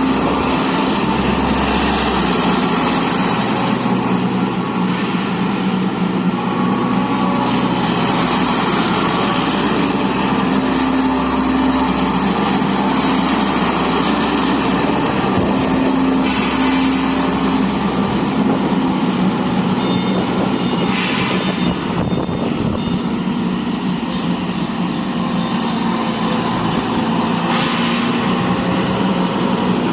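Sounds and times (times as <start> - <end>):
loader engine running: 0.0 - 29.9.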